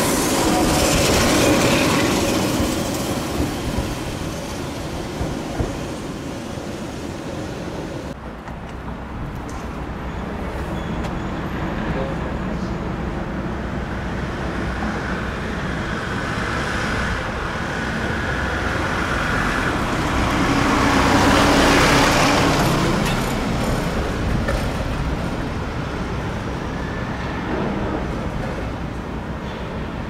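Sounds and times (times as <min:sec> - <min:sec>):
road traffic: 0:00.0 - 0:30.0.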